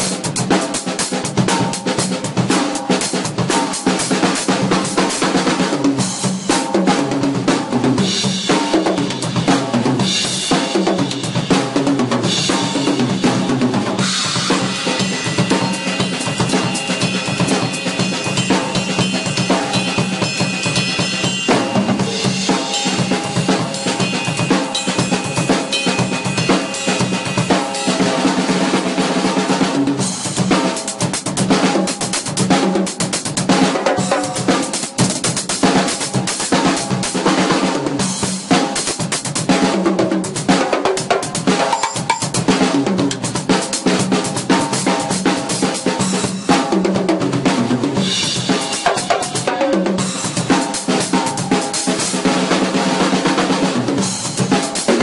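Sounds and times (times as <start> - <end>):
drum kit playing a groove: 0.0 - 55.0.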